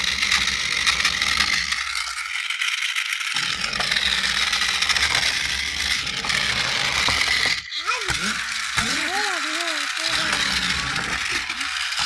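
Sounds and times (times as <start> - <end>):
toy tank motor and gears: 0.0 - 12.0.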